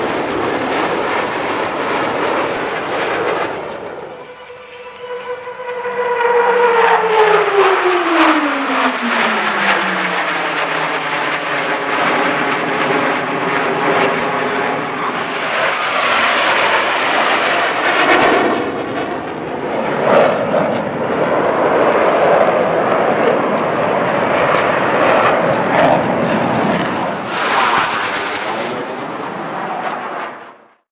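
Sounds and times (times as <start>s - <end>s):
military jet roar: 0.0s - 30.8s.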